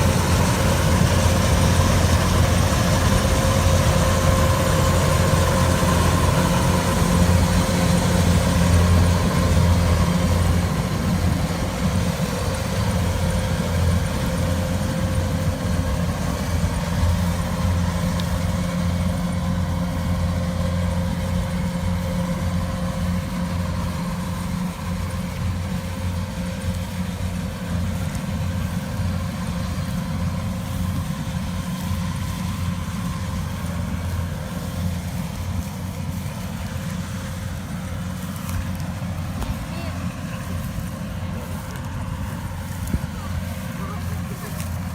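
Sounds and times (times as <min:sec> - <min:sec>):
harvester engine idling: 0:00.0 - 0:44.9.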